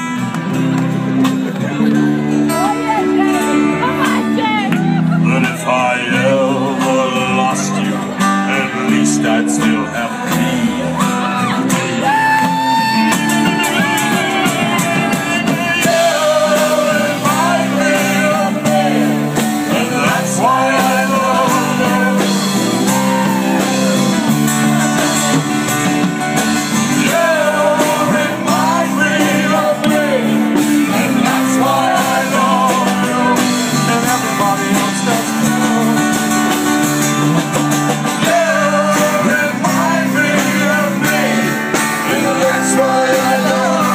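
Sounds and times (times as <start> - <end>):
acoustic guitar strumming: 0.0 - 43.9
person singing: 2.6 - 25.4, 26.8 - 36.6, 38.1 - 43.9.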